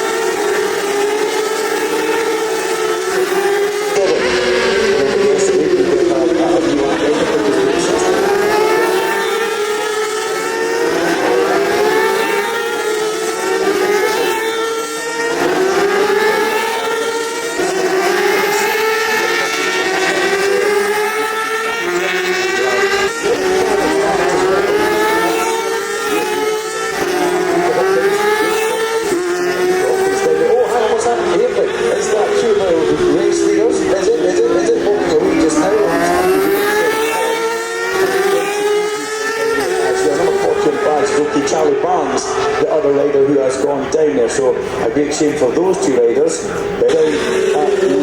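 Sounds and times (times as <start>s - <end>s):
racing motorcycle engines upshifting: 0.0s - 48.0s.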